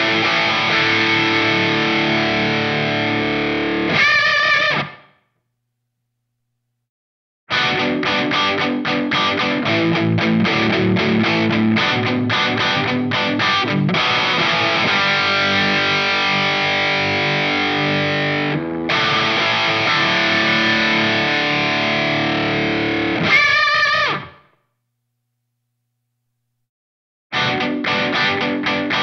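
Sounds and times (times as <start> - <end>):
distorted electric guitar chords: 0.0 - 5.1, 7.5 - 24.5, 27.3 - 29.0.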